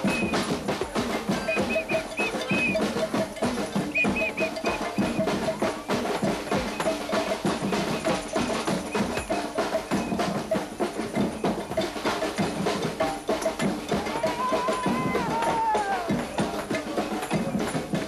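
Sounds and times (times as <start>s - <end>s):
drums: 0.0s - 18.0s.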